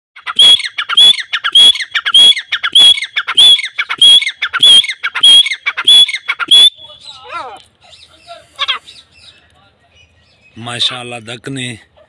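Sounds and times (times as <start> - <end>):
bird calling: 0.2 - 11.2.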